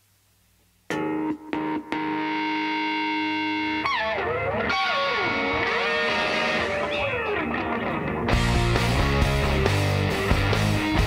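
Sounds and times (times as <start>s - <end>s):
electric guitar music: 0.9s - 11.0s.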